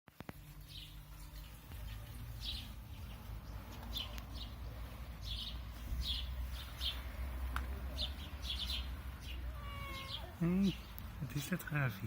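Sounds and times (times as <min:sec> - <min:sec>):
sparrows chirping: 0:00.4 - 0:12.0.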